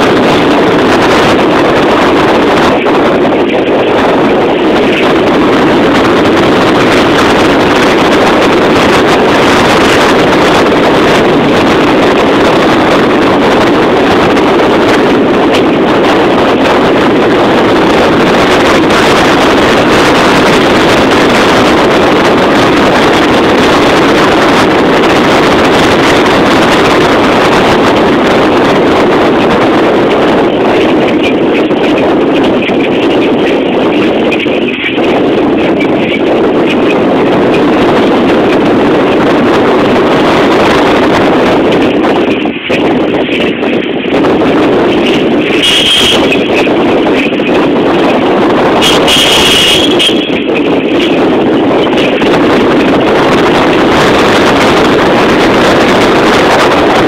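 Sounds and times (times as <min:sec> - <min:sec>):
vehicle driving on rough dirt road: 0:00.0 - 0:57.0
wind buffeting microphone: 0:00.0 - 0:57.0.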